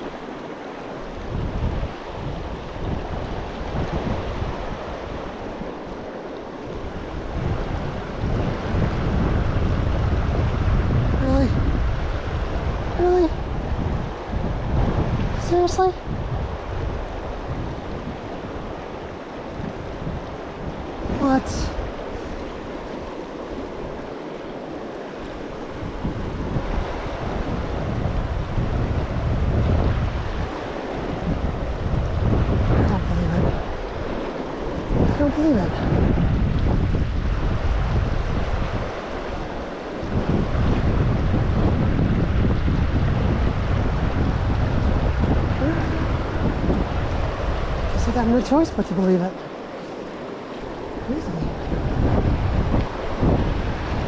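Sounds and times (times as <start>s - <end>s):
rushing stream water: 0.0s - 54.0s
wind buffeting microphone: 0.0s - 54.0s.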